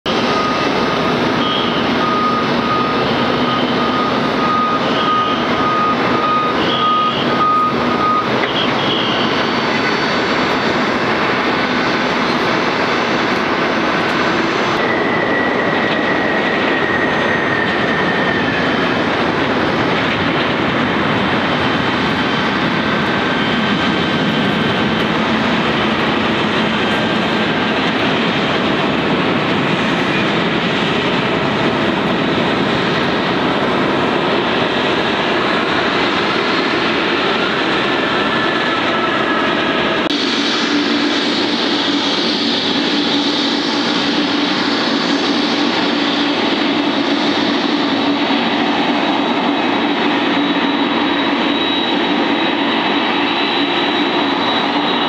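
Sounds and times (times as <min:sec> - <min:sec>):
jet airliner roar: 0:00.0 - 0:55.0.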